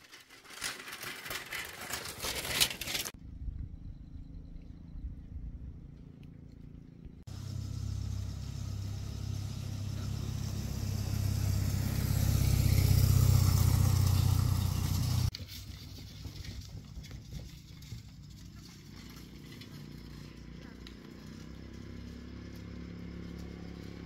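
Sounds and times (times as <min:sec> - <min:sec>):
vehicle engine running: 0:03.2 - 0:15.4, 0:16.3 - 0:24.0.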